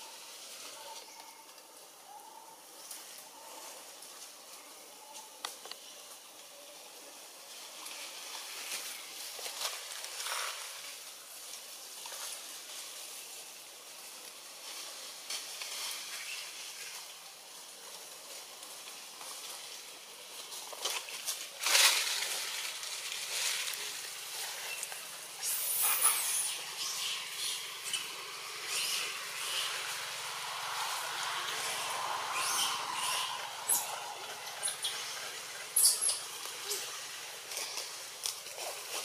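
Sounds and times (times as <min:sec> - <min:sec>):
rustling leaves and snapping branches: 0:02.6 - 0:39.0
steady high hiss: 0:05.8 - 0:39.0.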